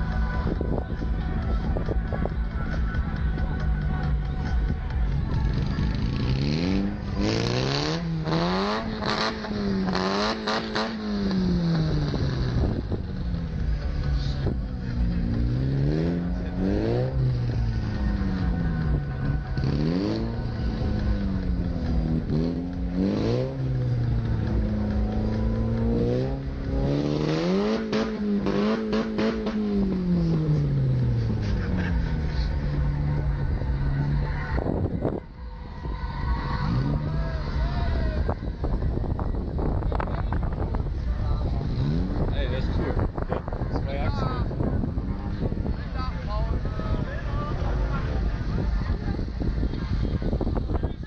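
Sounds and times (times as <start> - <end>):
car engine revving: 0.0 - 50.8.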